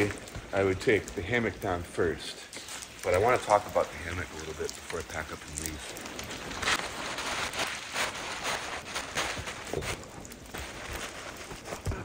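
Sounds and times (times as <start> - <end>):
tarp fabric rustling and crinkling: 0.0 - 12.0.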